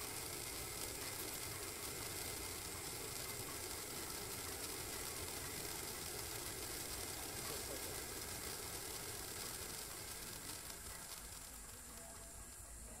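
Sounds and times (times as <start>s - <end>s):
firework hissing: 0.0s - 13.0s.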